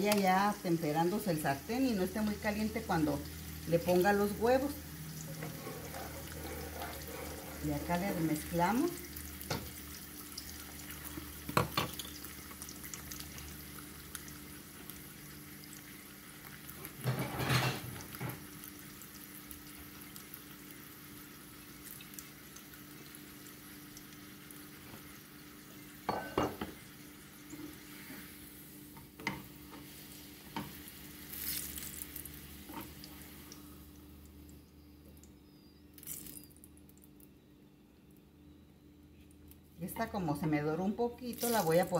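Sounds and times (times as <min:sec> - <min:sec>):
oil sizzling under tortilla: 0:00.0 - 0:37.2, 0:41.2 - 0:41.9.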